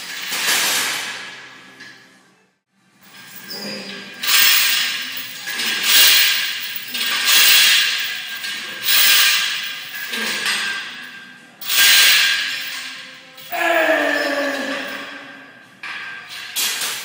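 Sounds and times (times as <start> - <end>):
steel chains rattling on floor: 0.0 - 1.5, 3.0 - 17.0.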